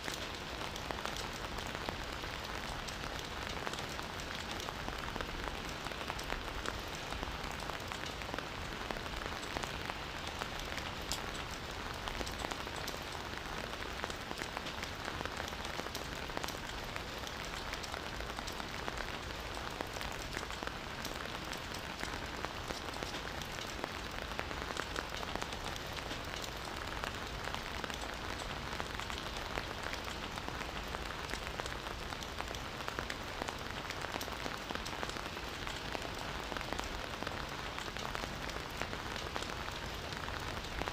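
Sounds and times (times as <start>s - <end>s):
rain falling in a forest: 0.0s - 40.9s
raindrops ticking on leaves: 0.0s - 40.9s.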